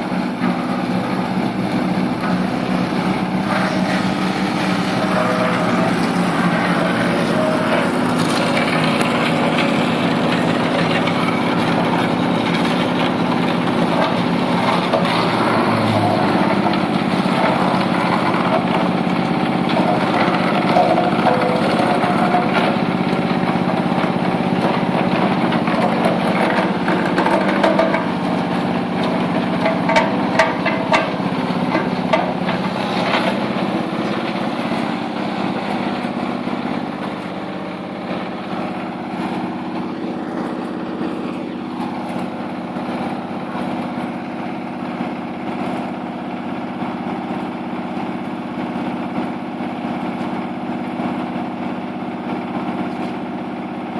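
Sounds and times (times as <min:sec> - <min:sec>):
wood crusher machine droning: 0:00.0 - 0:53.9.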